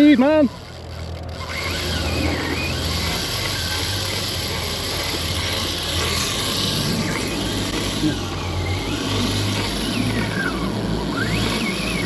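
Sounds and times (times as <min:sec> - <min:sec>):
boat engine drone: 0:00.0 - 0:12.0
fishing reel drag clicking: 0:00.0 - 0:12.0.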